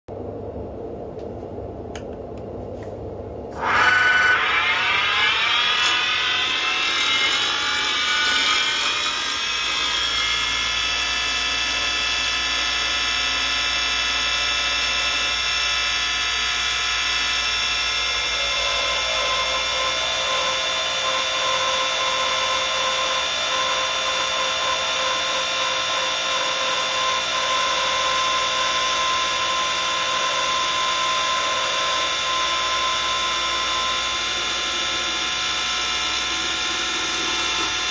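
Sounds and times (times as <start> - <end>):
lathe motor whining: 3.5 - 37.9
turning tool cutting wood: 3.6 - 15.9, 16.6 - 37.9.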